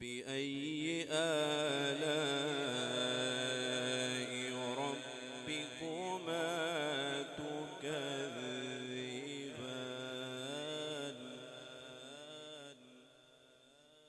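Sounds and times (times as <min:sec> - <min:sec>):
man chanting into a microphone: 0:00.0 - 0:13.1.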